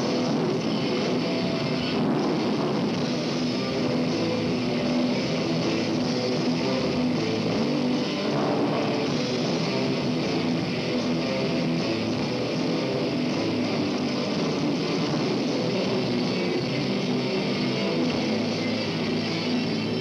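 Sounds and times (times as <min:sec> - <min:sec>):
bass guitar: 0:00.0 - 0:20.0
drum kit: 0:00.0 - 0:20.0
electric guitars: 0:00.0 - 0:20.0.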